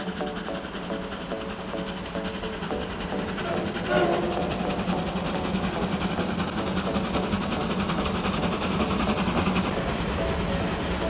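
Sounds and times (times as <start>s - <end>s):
steam locomotive rolling past: 0.0s - 11.0s.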